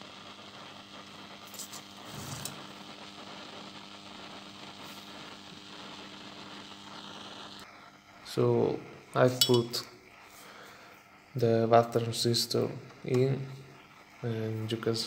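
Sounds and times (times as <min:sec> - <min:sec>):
amplifier hiss and static: 0:00.0 - 0:15.0
crackles: 0:00.0 - 0:15.0
low mains hum: 0:00.0 - 0:15.0.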